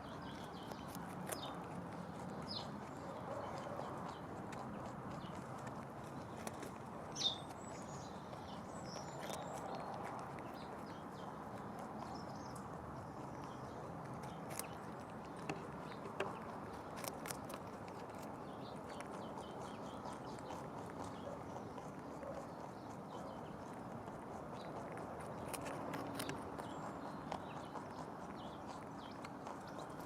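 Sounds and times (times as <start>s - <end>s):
rabbit crunching a carrot: 0.0s - 30.0s.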